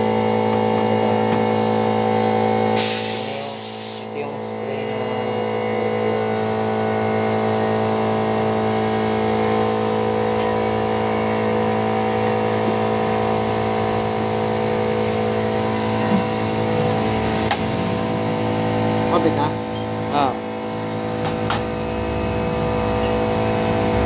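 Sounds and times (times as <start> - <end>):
motor humming steadily: 0.0 - 24.0.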